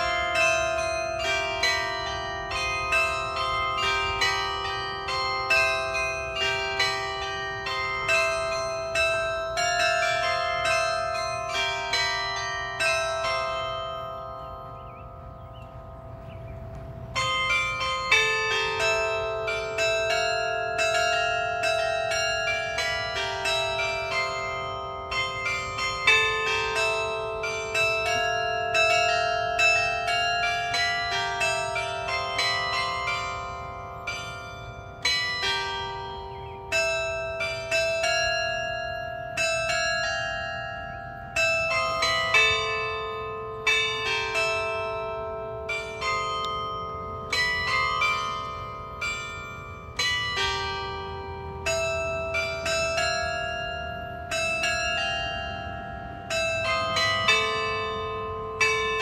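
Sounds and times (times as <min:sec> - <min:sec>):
carillon bells playing a tune: 0:00.0 - 0:59.0.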